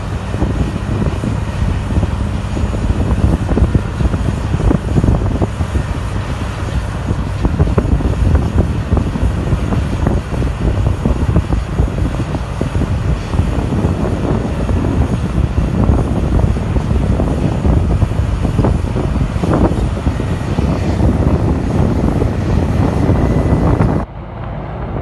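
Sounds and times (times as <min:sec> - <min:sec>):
heavy diesel machinery rumbling: 0:00.0 - 0:25.0.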